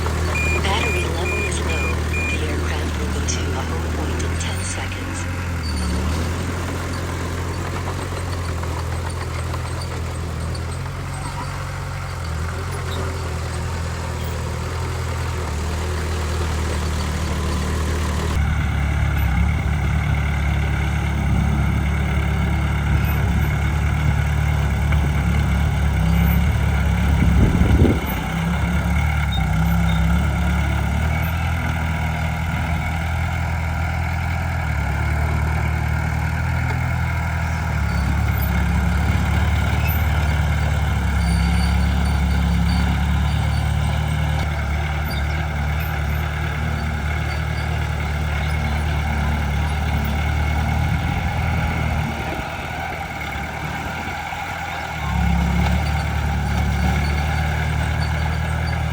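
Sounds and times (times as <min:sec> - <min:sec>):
heavy diesel engine humming: 0:00.0 - 0:58.9.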